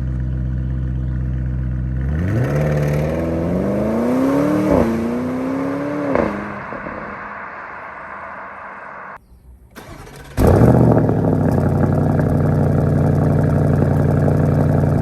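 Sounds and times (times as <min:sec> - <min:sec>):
car engine revving then idling: 0:00.0 - 0:09.2, 0:09.8 - 0:15.0.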